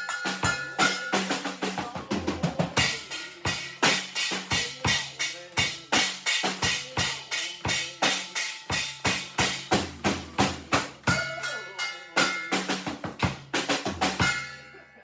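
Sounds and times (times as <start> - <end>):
drum kit steady beat: 0.0 - 14.8.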